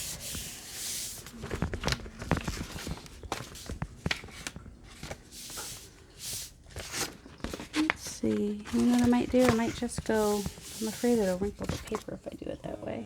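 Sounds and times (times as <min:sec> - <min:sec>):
hands rubbing paper: 0:00.0 - 0:12.2.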